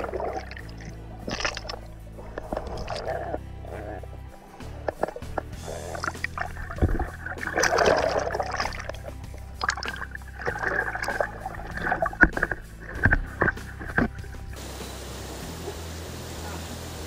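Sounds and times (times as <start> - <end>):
background music: 0.0 - 17.0
water splashing: 0.0 - 17.0.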